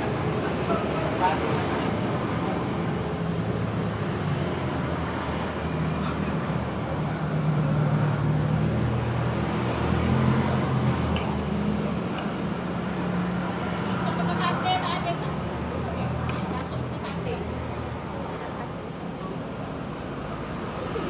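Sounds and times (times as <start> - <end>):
street traffic engines: 0.0 - 21.0.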